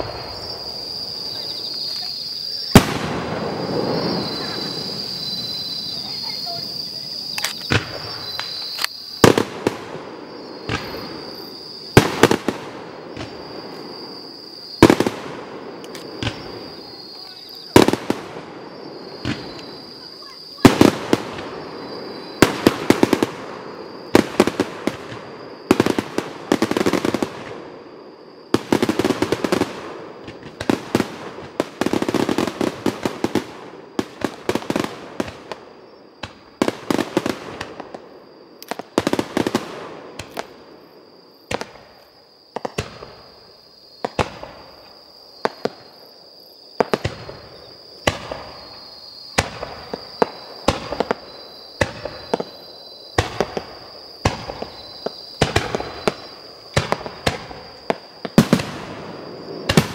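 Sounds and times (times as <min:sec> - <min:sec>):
fireworks popping and crackling: 0:00.0 - 0:27.8, 0:28.4 - 0:40.6, 0:41.5 - 0:43.4, 0:44.0 - 0:46.0, 0:46.7 - 0:59.9.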